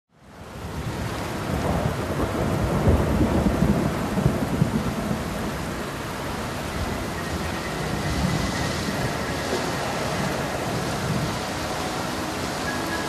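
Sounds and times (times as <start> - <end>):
rain-like rushing noise: 0.1 - 13.0.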